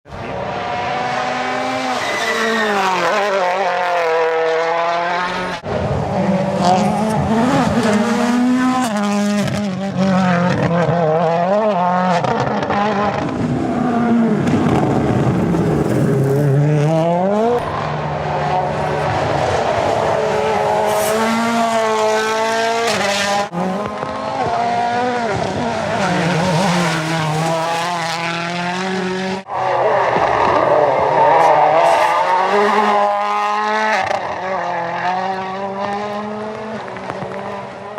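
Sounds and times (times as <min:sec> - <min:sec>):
rally car engine accelerating: 0:00.1 - 0:37.9.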